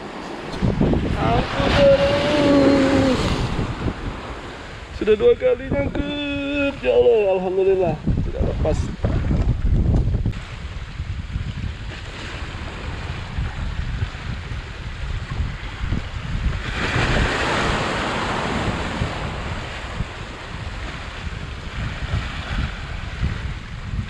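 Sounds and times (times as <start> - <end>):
surf breaking on a beach: 0.0 - 24.0
wind buffeting the microphone: 0.0 - 24.0.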